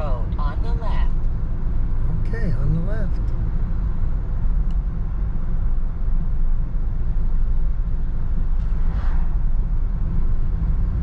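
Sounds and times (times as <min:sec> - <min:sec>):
road and engine rumble in car cabin: 0:00.0 - 0:11.0.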